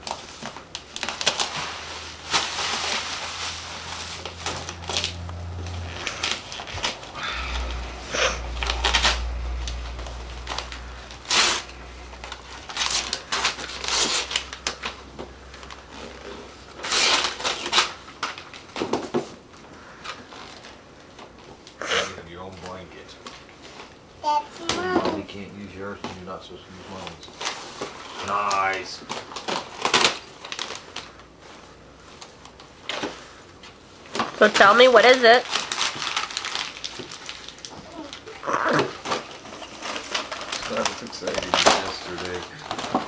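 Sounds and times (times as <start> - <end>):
wrapping paper tearing and crinkling: 0.0 - 19.1, 26.9 - 33.3, 34.0 - 43.0.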